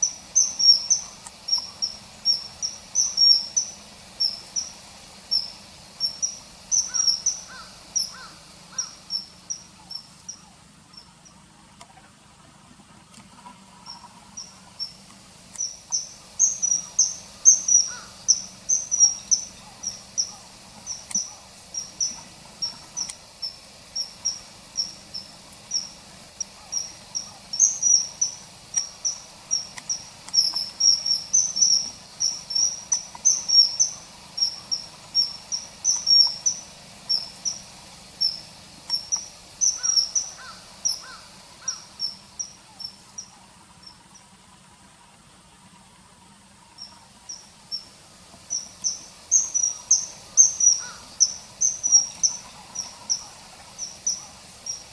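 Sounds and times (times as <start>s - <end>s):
kingfisher calling shrill notes: 0.0s - 10.5s, 13.8s - 43.3s, 46.8s - 54.9s.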